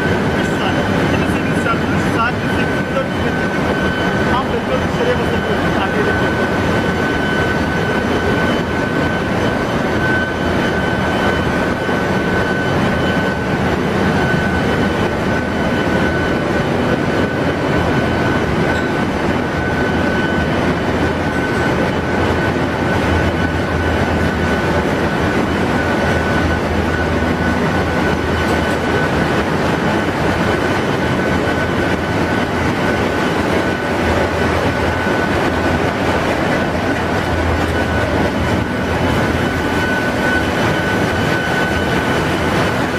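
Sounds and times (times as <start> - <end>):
engine-room machinery din: 0.0 - 42.9
high-pitched machinery whine: 0.0 - 42.9.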